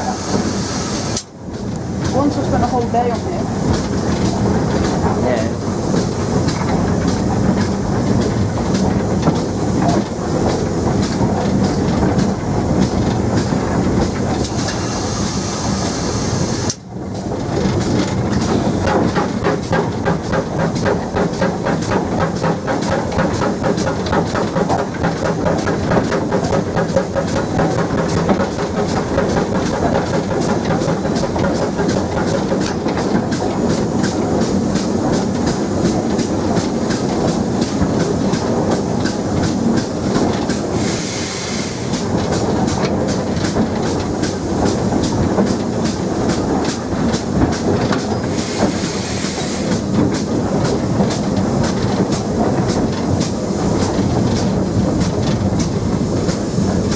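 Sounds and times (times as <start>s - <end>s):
steam hissing: 0.0s - 56.9s
steam locomotive clatter: 0.0s - 56.9s.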